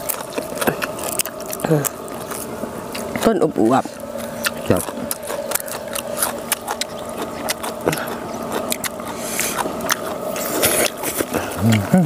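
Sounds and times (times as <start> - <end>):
crunchy food being eaten: 0.0 - 12.0.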